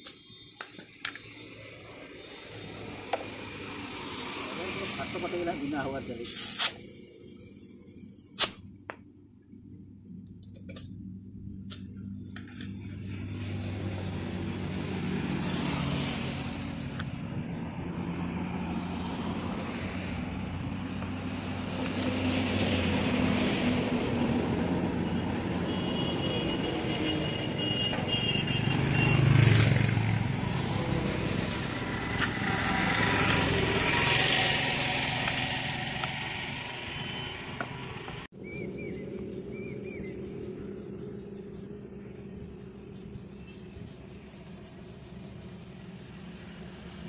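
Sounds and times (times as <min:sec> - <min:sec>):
motor vehicles passing: 0:01.1 - 0:06.2, 0:11.0 - 0:47.0.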